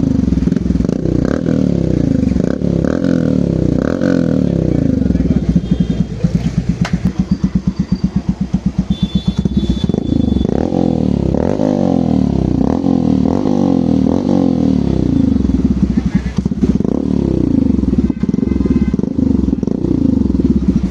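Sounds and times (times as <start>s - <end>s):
motorcycle engine idling and revving: 0.0s - 20.9s.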